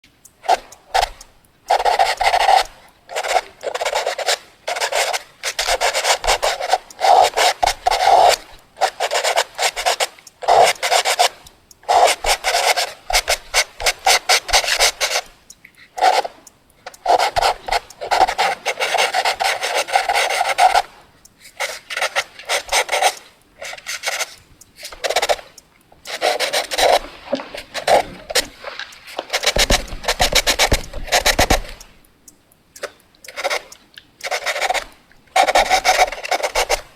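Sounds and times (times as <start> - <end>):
pencil scratching on paper: 0.4 - 15.4, 16.0 - 31.9, 33.2 - 36.9.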